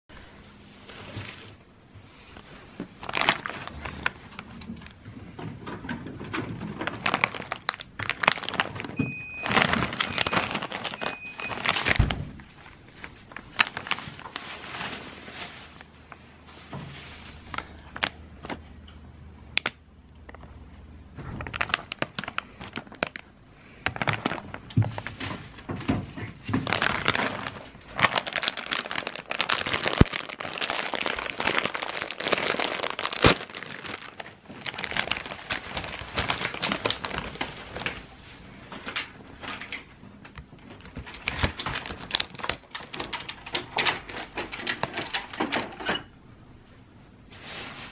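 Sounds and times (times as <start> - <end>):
plastic snack bag crinkling: 2.4 - 5.0, 6.4 - 18.7, 21.2 - 45.4.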